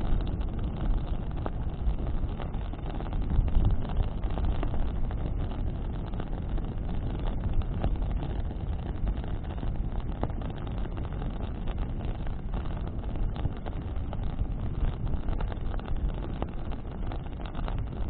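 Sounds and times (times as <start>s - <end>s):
crackles of burning branches: 0.0s - 18.0s
low rumble of flames: 0.0s - 18.0s
wind buffeting microphone: 0.0s - 18.0s.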